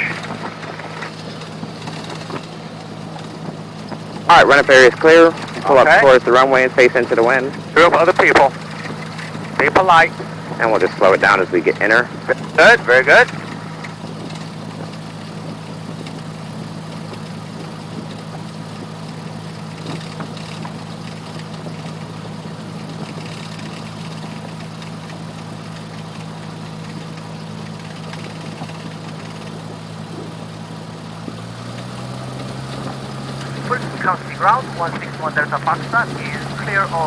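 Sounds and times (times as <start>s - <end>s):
aircraft engine idling: 0.0s - 37.0s.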